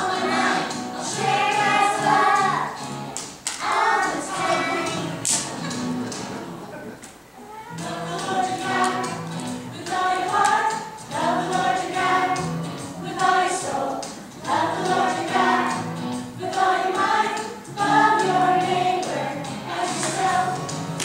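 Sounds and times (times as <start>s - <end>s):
children's choir singing: 0.0s - 5.7s, 7.7s - 21.0s.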